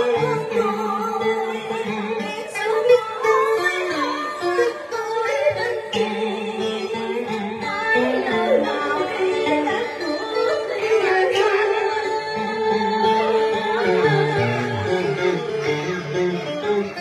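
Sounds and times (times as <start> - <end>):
woman singing into a microphone: 0.0 - 16.0
instrumental accompaniment: 0.0 - 17.0.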